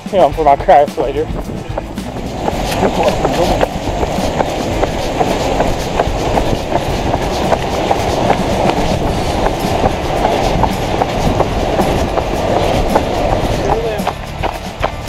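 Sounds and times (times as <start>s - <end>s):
constant rushing noise: 0.0s - 15.0s
running footsteps thumping: 0.0s - 15.0s.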